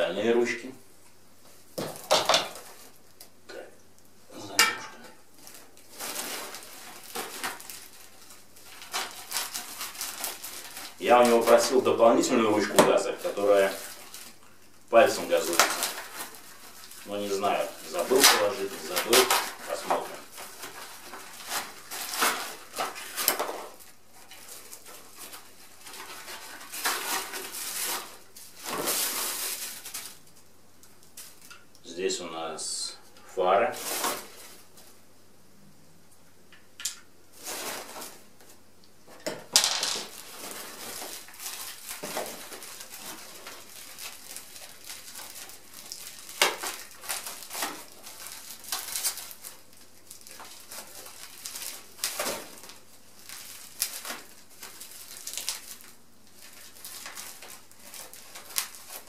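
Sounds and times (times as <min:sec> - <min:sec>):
plastic wrapping rustling: 0:00.0 - 0:32.6, 0:33.4 - 0:35.2, 0:37.2 - 0:59.0
plastic packaging crinkling: 0:05.0 - 0:32.0, 0:33.5 - 0:35.0, 0:37.3 - 0:59.0.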